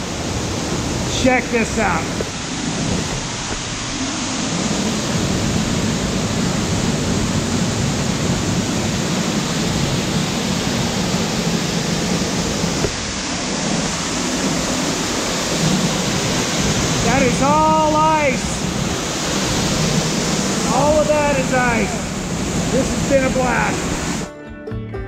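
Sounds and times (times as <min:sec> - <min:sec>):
waterfall rushing: 0:00.0 - 0:24.3.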